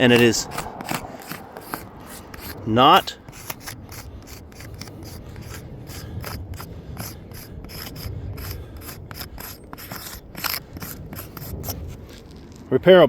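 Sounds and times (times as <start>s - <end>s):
gritty scraping and rubbing: 0.0s - 13.0s.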